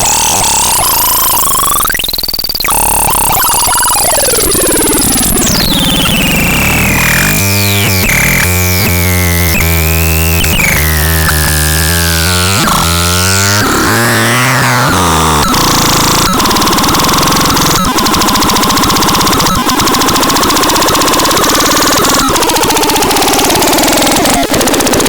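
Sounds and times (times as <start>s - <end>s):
synthesizer noise with downward sweeps: 0.0s - 25.0s.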